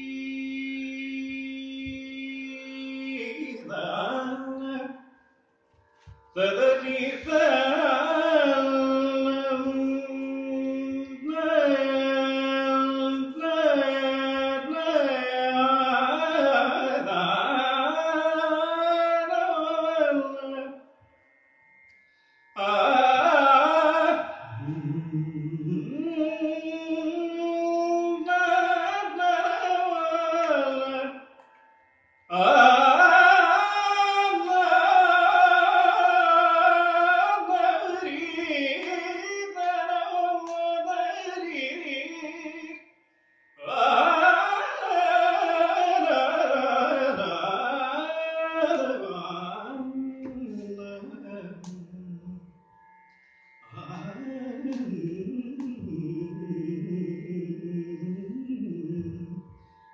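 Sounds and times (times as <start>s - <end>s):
man singing with gliding ornaments: 0.0s - 5.1s, 6.3s - 20.9s, 22.5s - 31.3s, 32.3s - 43.0s, 43.6s - 52.6s, 53.6s - 59.7s.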